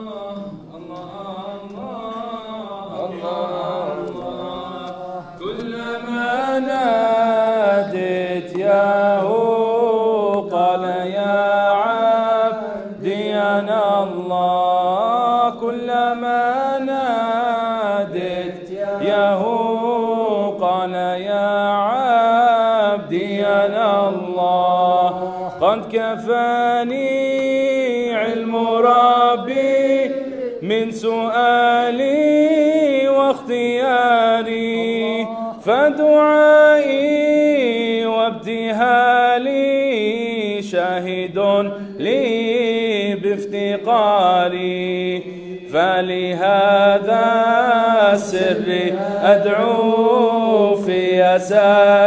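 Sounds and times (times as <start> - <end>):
man singing ornamented melody: 0.0 - 52.0.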